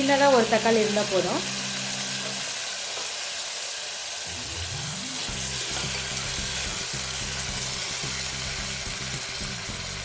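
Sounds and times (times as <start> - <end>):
onion and tomato sizzling in oil: 0.0 - 10.0.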